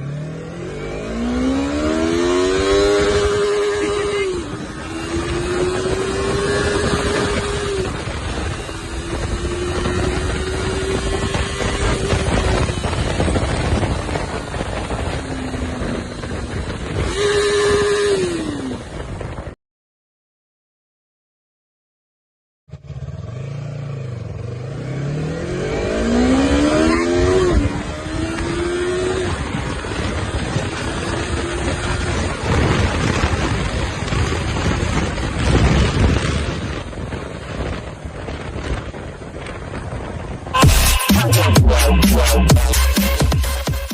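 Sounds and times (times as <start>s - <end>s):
motorcycle engine revving high: 0.0s - 19.6s, 22.7s - 37.7s, 40.3s - 43.9s
wind rush on microphone: 0.3s - 19.6s, 24.1s - 40.6s.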